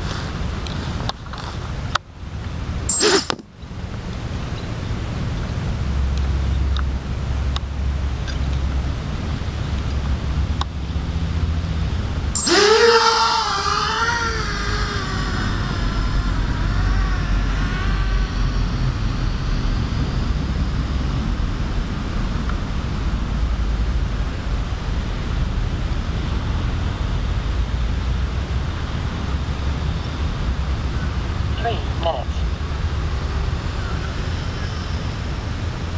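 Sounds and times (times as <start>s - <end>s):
low rumble: 0.0s - 35.9s
drone propellers whining: 2.7s - 35.9s.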